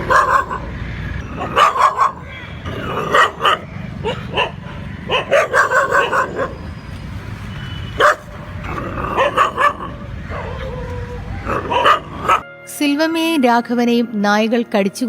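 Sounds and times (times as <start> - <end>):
steady background noise: 0.0 - 12.4
dogs barking: 0.0 - 12.5.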